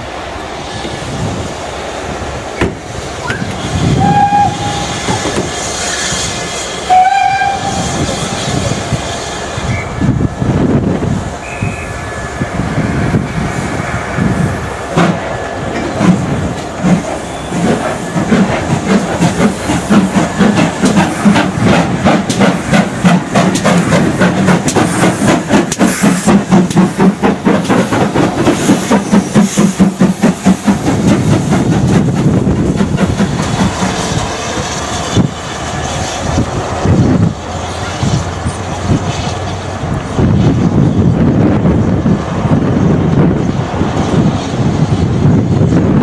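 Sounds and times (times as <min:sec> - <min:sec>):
steam locomotive exhaust beats: 0:00.0 - 0:46.0
steam hiss: 0:00.1 - 0:40.7.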